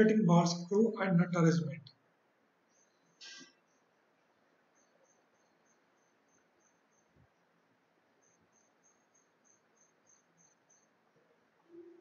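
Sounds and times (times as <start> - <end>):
faint high-pitched chirping: 0.0 - 12.0.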